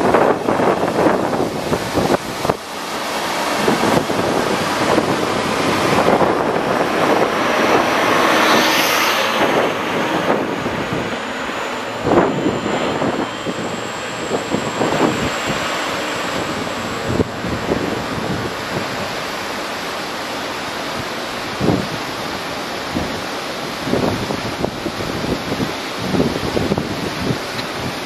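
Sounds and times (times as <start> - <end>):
locomotive high whine: 0.0 - 28.0
train coaches rolling on rails: 0.0 - 28.0
wind noise on microphone: 0.0 - 28.0.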